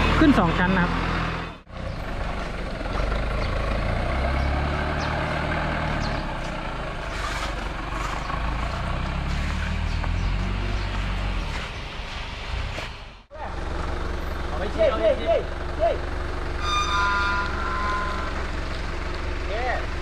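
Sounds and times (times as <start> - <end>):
heavy vehicle engine humming: 0.0 - 20.0.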